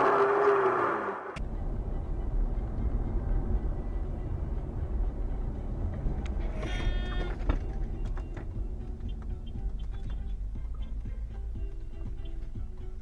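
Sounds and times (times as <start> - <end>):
vehicle road and engine rumble: 0.7 - 13.0.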